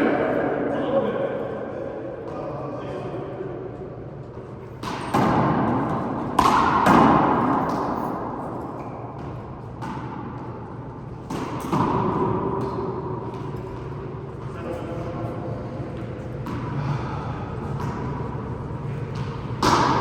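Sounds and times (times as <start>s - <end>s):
handball hitting walls with echo: 0.0s - 20.0s.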